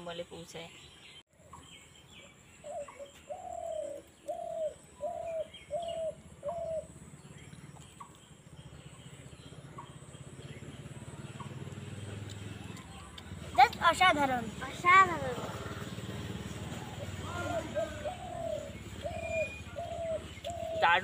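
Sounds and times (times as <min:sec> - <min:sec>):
bird calling evenly spaced notes: 0:00.7 - 0:14.8, 0:15.8 - 0:21.0.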